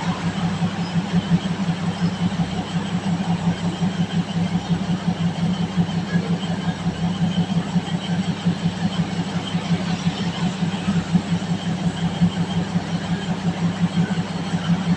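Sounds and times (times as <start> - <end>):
diesel train engine idling: 0.0 - 14.9.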